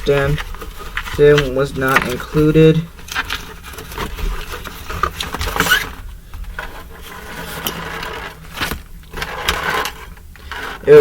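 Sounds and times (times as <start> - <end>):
rustling of plastic parts: 0.0 - 11.0.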